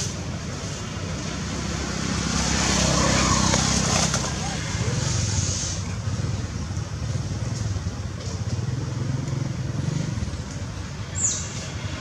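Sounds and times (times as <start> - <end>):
engine rumbling: 0.0 - 12.0.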